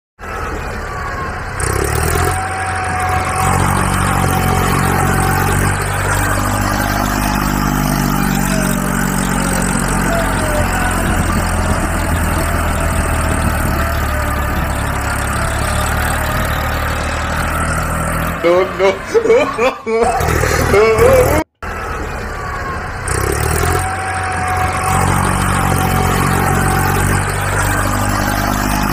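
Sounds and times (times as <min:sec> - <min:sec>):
tractor engine running: 0:00.2 - 0:28.9.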